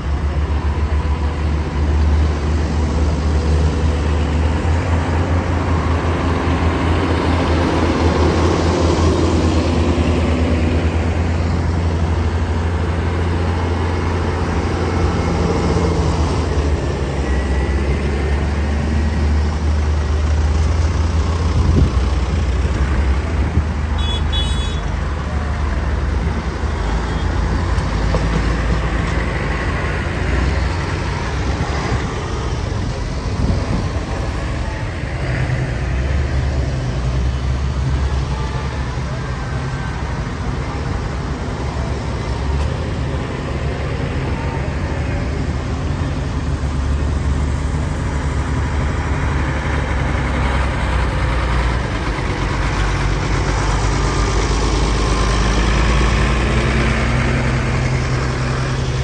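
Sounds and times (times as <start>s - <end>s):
tractor engines droning: 0.0s - 59.0s.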